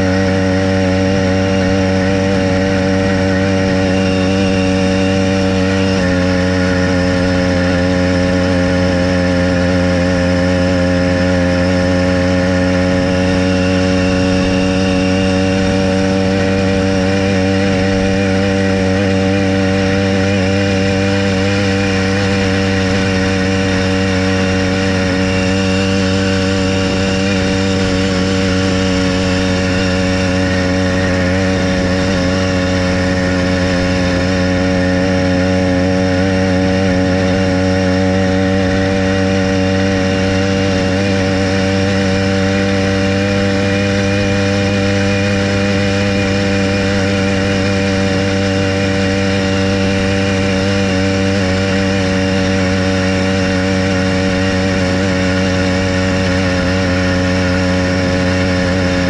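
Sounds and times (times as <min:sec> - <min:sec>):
small bicycle engine running: 0:00.0 - 0:59.0.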